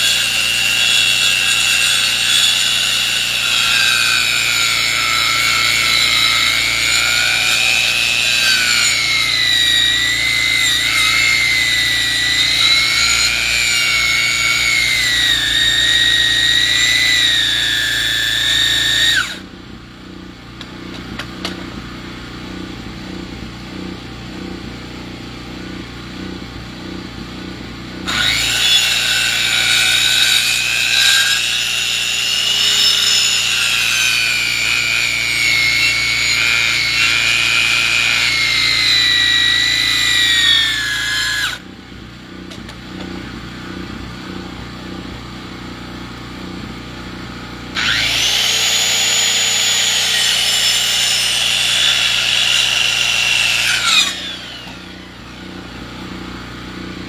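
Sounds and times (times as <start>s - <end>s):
saw blade whining through wood: 0.0s - 57.0s
sawmill motor running: 0.0s - 57.0s.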